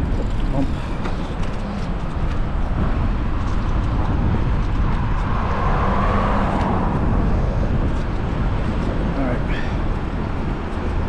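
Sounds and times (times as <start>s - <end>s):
bike road noise rumble: 0.0s - 11.0s
wind buffeting microphone: 0.0s - 11.0s.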